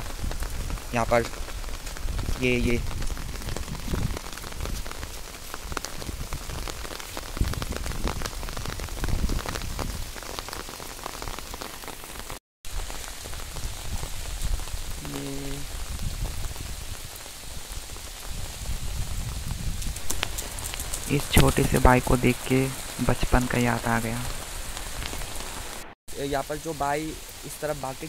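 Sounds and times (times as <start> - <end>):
rain on leaves and water: 0.0 - 28.0.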